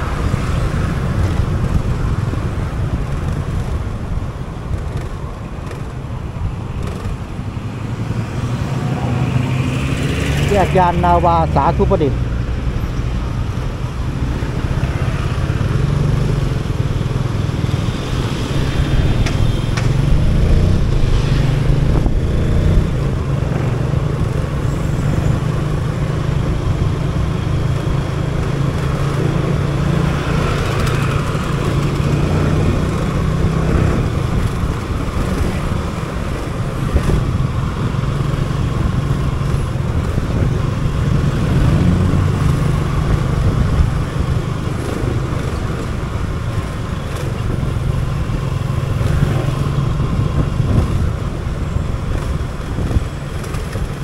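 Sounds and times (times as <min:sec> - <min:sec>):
motorcycle engine running: 0:00.0 - 0:08.6, 0:12.5 - 0:54.0
road and traffic noise: 0:00.0 - 0:54.0
vehicles passing: 0:00.0 - 0:54.0.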